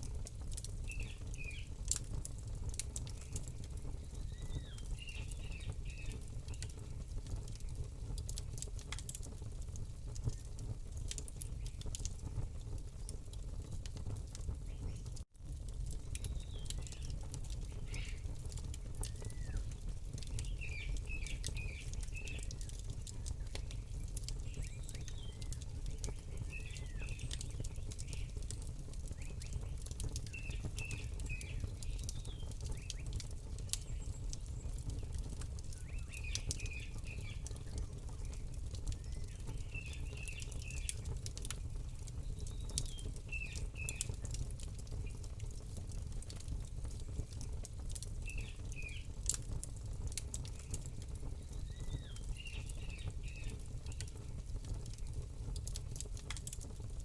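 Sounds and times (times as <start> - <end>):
campfire crackling and popping: 0.0 - 57.0
small birds chirping: 0.5 - 13.8, 14.4 - 15.2, 15.9 - 45.6, 46.3 - 49.4, 50.1 - 55.3.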